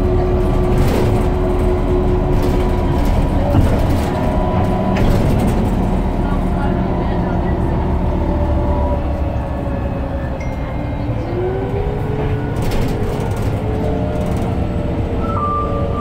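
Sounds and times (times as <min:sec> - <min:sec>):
bus drivetrain rumble: 0:00.0 - 0:16.0
engine and gearbox whine: 0:00.0 - 0:16.0.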